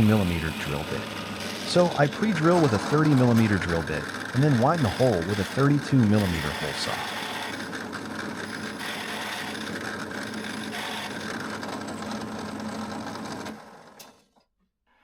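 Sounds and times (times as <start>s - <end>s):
drill boring through wood: 0.0s - 12.2s.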